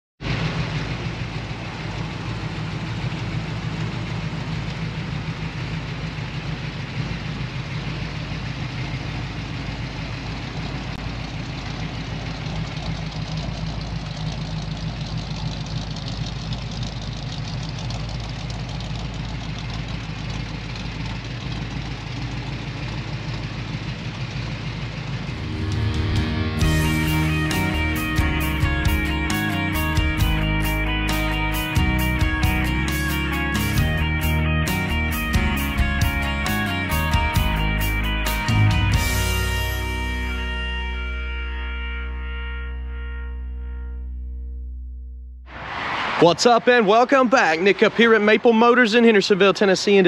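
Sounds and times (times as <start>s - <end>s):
vee eight engine idling: 0.2s - 43.2s, 46.5s - 50.0s.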